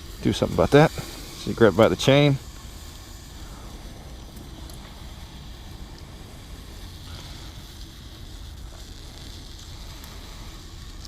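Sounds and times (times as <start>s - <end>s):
twig fire hissing: 0.0s - 11.0s
water nearing the boil: 0.0s - 11.0s.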